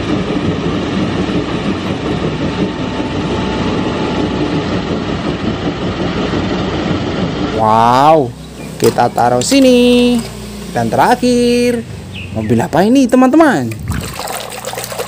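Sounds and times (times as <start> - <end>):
wheel loader diesel engine: 0.0 - 13.9.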